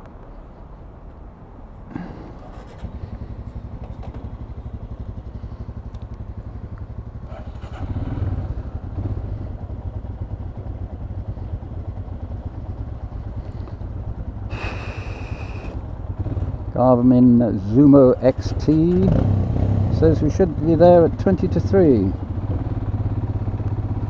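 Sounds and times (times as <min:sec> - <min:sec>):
motorcycle engine running: 0:01.9 - 0:24.0.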